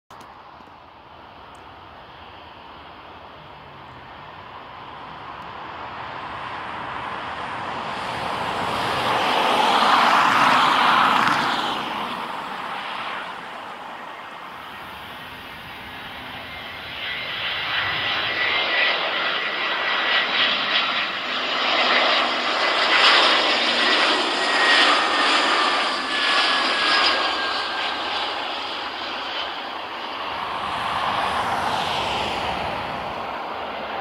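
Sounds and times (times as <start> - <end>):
high engine whine: 0.1 - 34.0
jet engines landing: 0.1 - 34.0.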